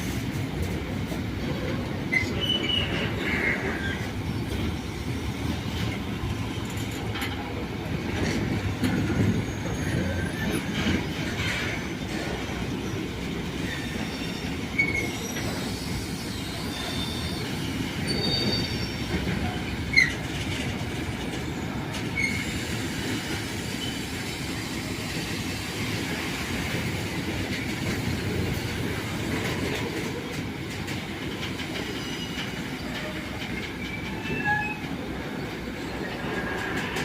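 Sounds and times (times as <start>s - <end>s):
train rumbling on rails: 0.0s - 37.0s
train wheels squealing: 1.4s - 7.0s, 8.8s - 30.3s, 30.9s - 37.0s.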